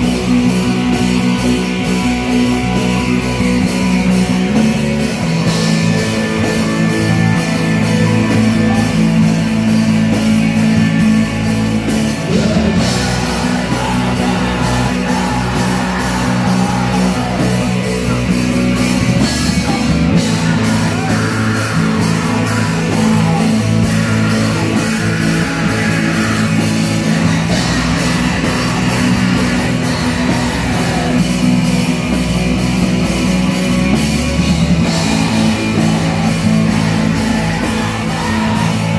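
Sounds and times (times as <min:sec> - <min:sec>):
bass guitar: 0:00.0 - 0:38.9
distorted electric guitars: 0:00.0 - 0:38.9
drums: 0:00.0 - 0:38.9
vocalist singing: 0:04.5 - 0:32.4, 0:34.4 - 0:38.9.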